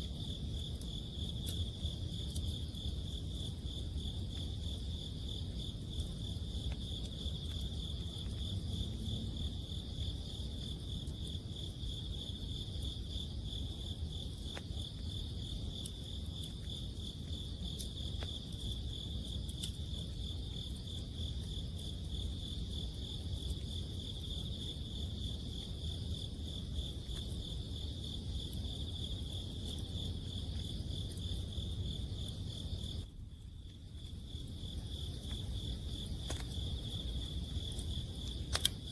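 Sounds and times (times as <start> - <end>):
campfire crackles: 0.0 - 38.9
crickets trilling: 0.0 - 38.9.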